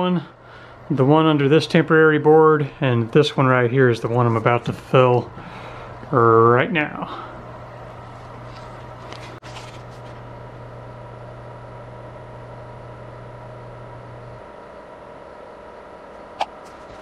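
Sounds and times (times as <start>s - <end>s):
machine hum with high whine: 0.0s - 17.0s.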